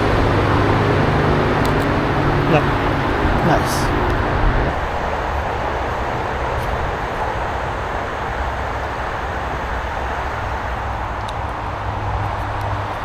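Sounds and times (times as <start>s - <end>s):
highway traffic drone: 0.0s - 13.0s.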